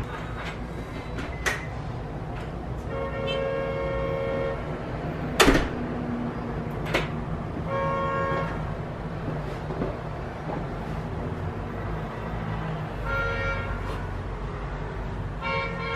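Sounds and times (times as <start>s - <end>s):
vehicle rumble: 0.0s - 15.5s.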